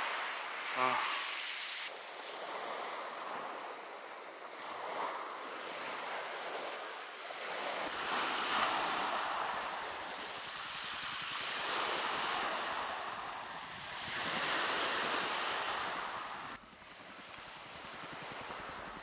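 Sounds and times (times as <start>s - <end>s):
sea waves washing ashore: 0.0s - 19.0s
wind on microphone: 0.0s - 19.0s.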